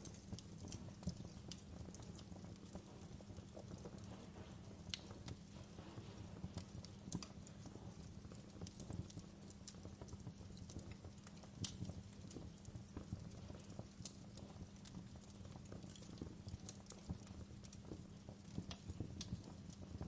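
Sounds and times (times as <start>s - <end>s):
low rumble of flame: 0.0s - 20.0s
wood fire crackling and popping: 0.0s - 20.0s.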